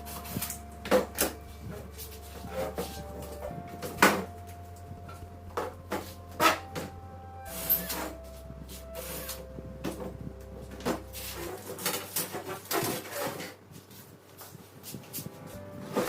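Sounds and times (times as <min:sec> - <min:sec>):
low hum: 0:00.0 - 0:13.0, 0:14.5 - 0:16.0.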